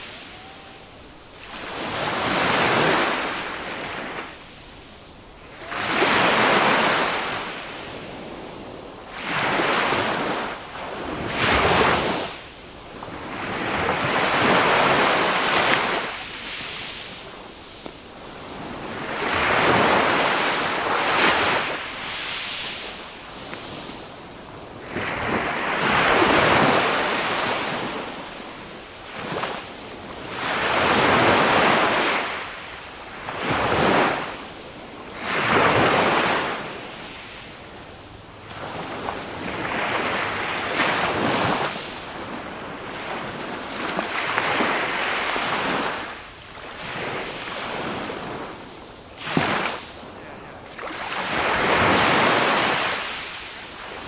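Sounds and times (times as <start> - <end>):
small waves breaking on shore: 0.0 - 54.0.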